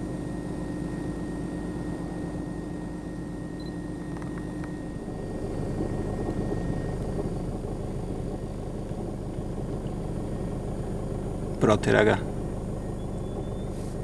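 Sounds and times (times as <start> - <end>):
suv engine droning: 0.0 - 14.0.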